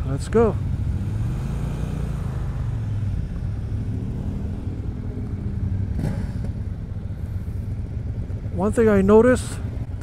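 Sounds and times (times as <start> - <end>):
motorcycle engine running at low revs: 0.0 - 10.0
other motorcycles running: 0.0 - 10.0.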